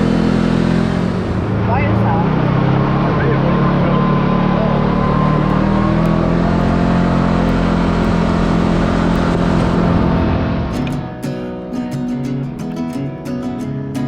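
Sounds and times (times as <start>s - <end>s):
utility vehicle engine running: 0.0s - 13.7s
tyre and road noise: 0.0s - 14.0s.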